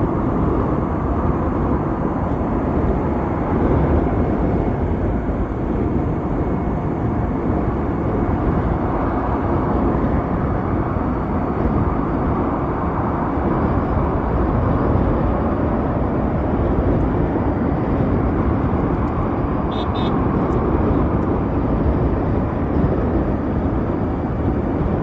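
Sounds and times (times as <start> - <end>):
road noise: 0.0 - 25.0
wind rush: 0.0 - 25.0.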